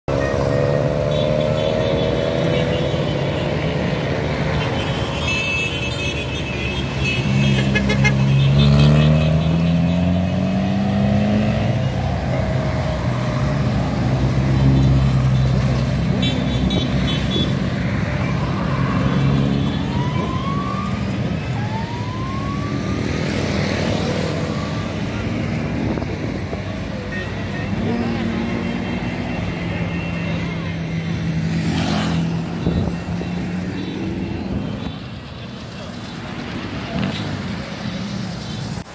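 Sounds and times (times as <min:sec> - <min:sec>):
motorcycle engines revving: 0:00.1 - 0:38.9
motorcycles and cars driving past: 0:00.1 - 0:38.9.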